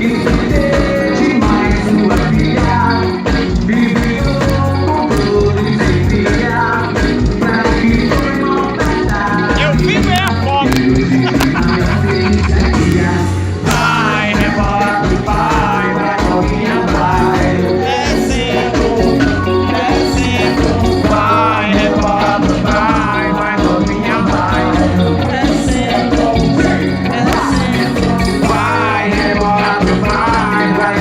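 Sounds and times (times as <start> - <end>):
live band playing up-tempo music: 0.0 - 31.0.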